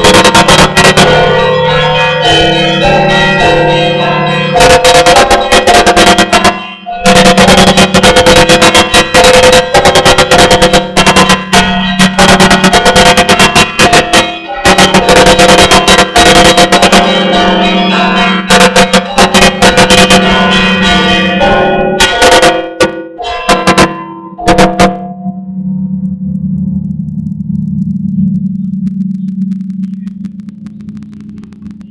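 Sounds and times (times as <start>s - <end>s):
small church bells pealing: 0.0s - 25.6s
hum of large bells: 0.0s - 29.2s.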